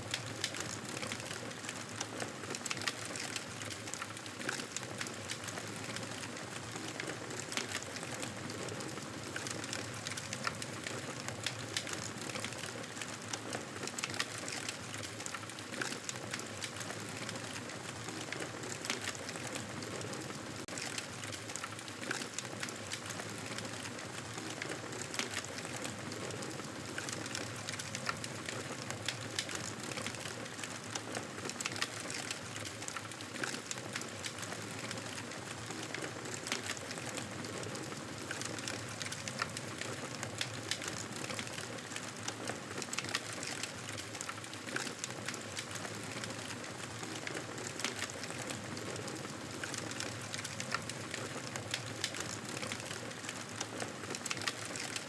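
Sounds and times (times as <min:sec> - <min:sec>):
campfire crackling and hissing: 0:00.0 - 0:55.0.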